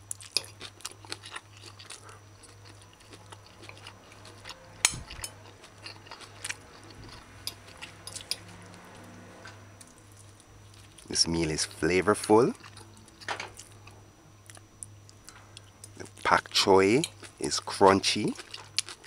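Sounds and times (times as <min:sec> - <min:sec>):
crunchy chewing: 0:00.0 - 0:19.0.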